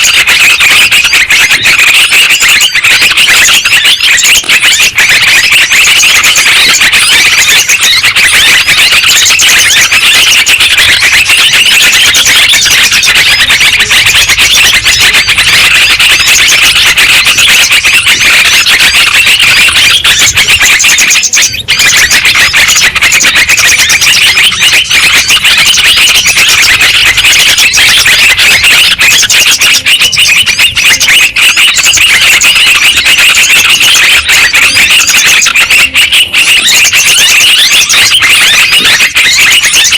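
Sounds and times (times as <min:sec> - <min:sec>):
chorus of bulbuls chattering: 0:00.0 - 0:39.9.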